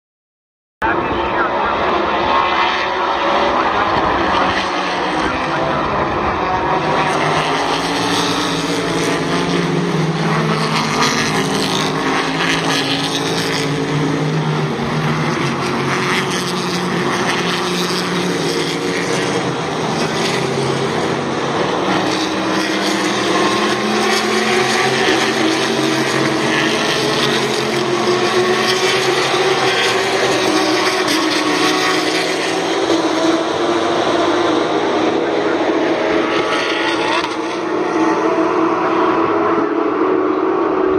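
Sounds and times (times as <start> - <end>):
race cars passing at speed: 0.8 - 40.9.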